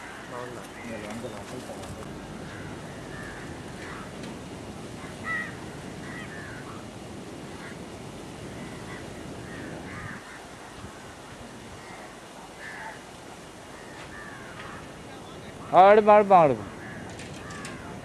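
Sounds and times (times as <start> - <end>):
crows cawing: 0.0 - 6.9, 7.5 - 7.9, 8.5 - 15.0, 15.7 - 18.0.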